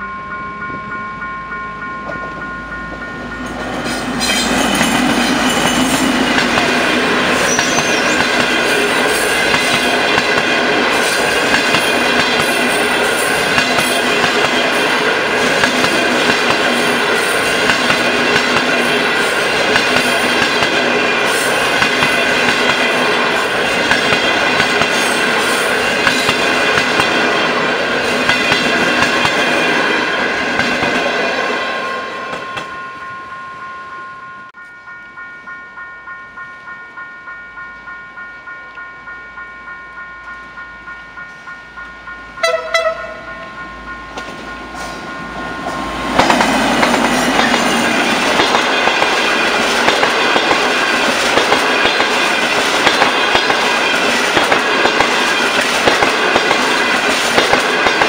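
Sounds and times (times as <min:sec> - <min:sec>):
passenger train passing: 0:00.0 - 0:58.0.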